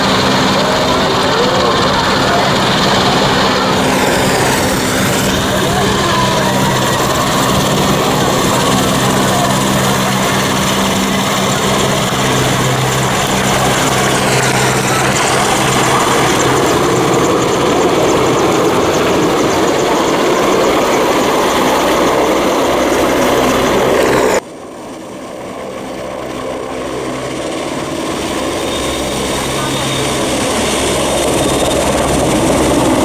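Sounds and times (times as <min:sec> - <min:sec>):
helicopter rotor drone: 0:00.0 - 0:33.0.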